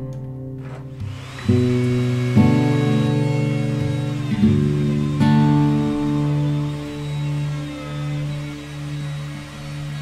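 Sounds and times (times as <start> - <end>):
guitar chords ringing: 0.0 - 10.0.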